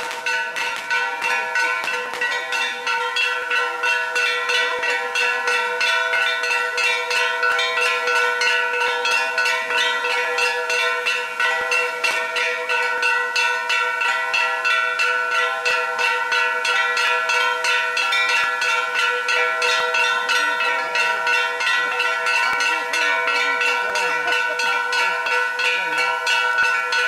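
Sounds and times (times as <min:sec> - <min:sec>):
bells struck in quick rhythm: 0:00.0 - 0:27.0.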